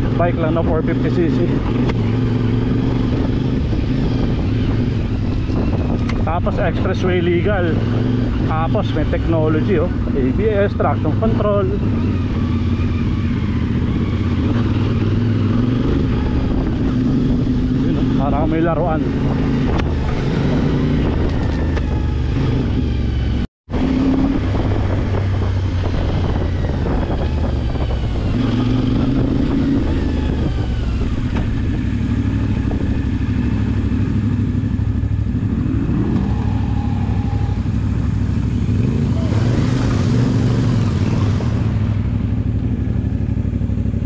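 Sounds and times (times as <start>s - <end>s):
wind noise on microphone: 0.0s - 43.5s
motorcycle engine revving: 0.0s - 44.0s.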